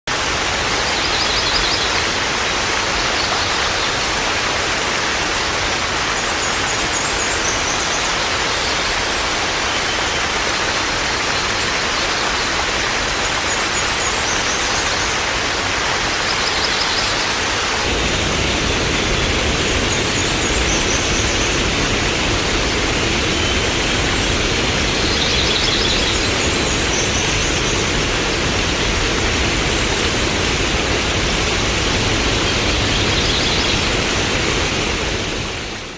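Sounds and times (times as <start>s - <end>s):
waterfall rushing: 0.1s - 35.9s.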